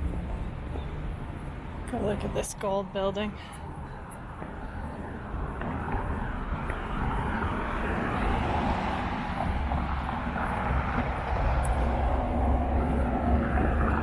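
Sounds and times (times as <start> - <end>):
low engine rumble: 0.0 - 14.0
outdoor street ambience: 0.0 - 14.0.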